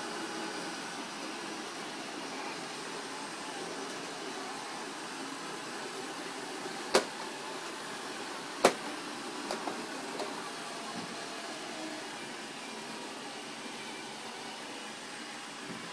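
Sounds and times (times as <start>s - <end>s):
robot vacuum whirring on carpet: 0.0s - 15.9s.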